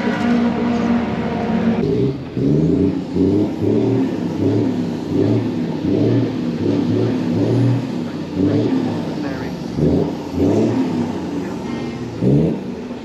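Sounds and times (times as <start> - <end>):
lorry engine revving: 0.0 - 13.0.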